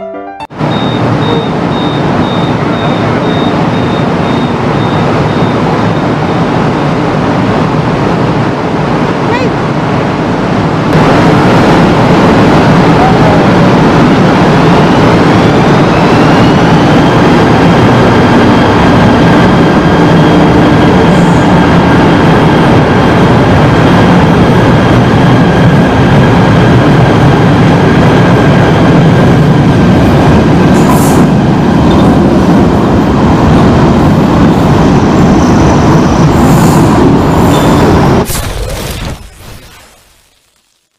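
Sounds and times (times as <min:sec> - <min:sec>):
train wheels rumbling on rails: 0:00.6 - 0:38.3.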